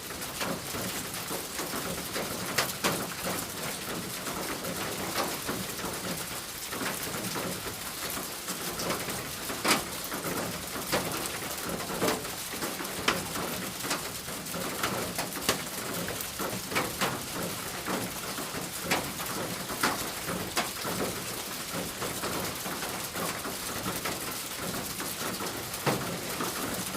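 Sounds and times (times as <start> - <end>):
rain falling on a roof: 0.0 - 26.9.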